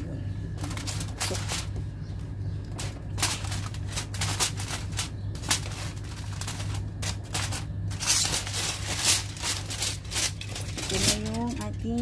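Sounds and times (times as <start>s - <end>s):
aluminium foil crinkling: 0.0s - 12.0s
steady low hum: 0.0s - 12.0s.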